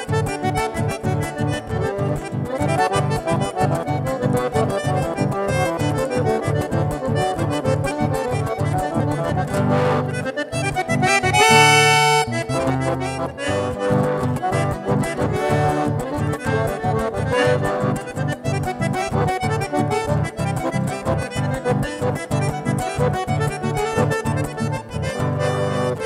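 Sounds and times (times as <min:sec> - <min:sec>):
acoustic guitar: 0:00.0 - 0:26.0
button accordion playing: 0:00.0 - 0:26.0.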